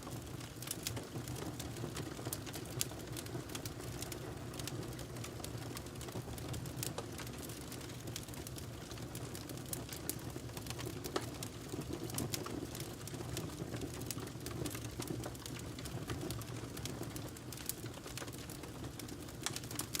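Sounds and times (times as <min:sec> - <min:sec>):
logs crackling and popping: 0:00.0 - 0:20.0.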